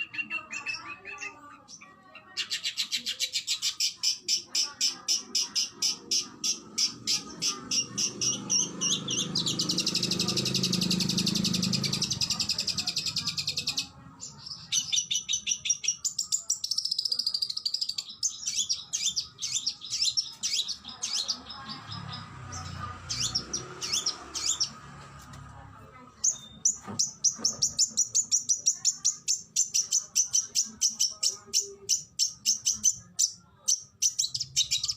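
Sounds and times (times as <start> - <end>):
magpie-robin singing: 0.0 - 24.9, 26.1 - 34.9.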